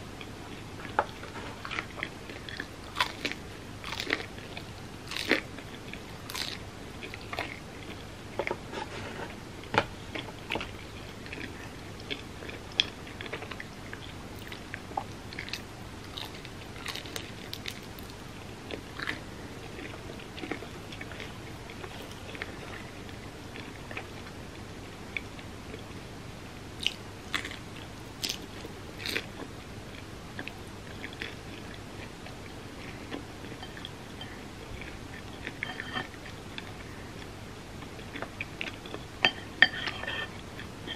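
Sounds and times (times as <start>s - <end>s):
person chewing food: 0.2s - 9.0s, 10.1s - 24.3s, 26.8s - 39.1s.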